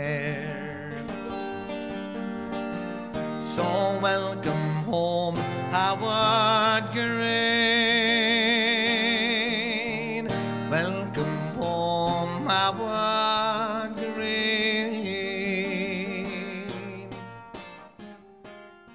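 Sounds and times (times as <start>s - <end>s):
man singing: 0.0s - 2.1s, 3.0s - 17.6s
strummed acoustic guitar: 0.0s - 18.9s.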